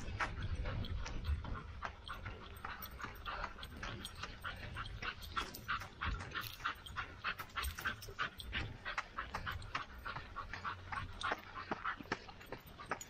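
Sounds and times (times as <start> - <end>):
fast rhythmic panting: 0.0 - 13.0.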